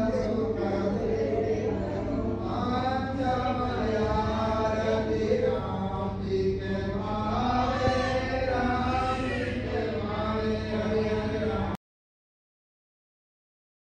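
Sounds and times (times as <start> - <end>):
mantras chanted in long tones: 0.0 - 11.8
steady low hum: 0.0 - 11.8.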